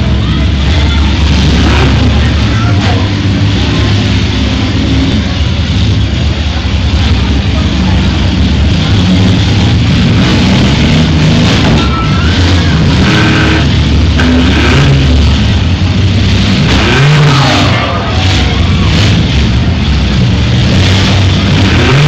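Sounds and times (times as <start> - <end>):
engines revving: 0.0 - 22.0.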